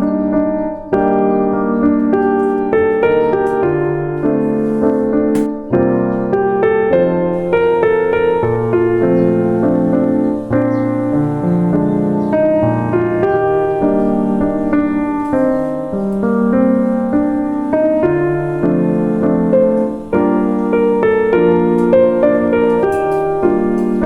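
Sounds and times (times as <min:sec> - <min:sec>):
calm solo piano music: 0:00.0 - 0:24.0.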